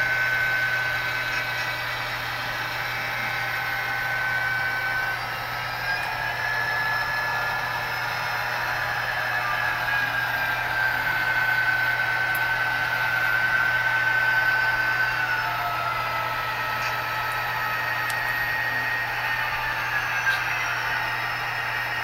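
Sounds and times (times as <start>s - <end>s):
high whine: 0.0s - 22.0s.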